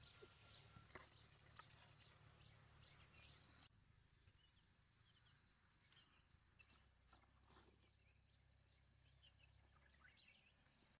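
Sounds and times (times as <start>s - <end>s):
faint distant bird chirps: 0.0s - 11.0s.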